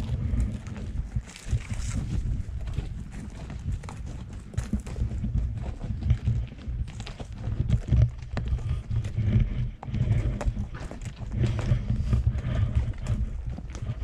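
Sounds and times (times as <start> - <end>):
horse hooves clip-clopping: 0.0 - 14.0.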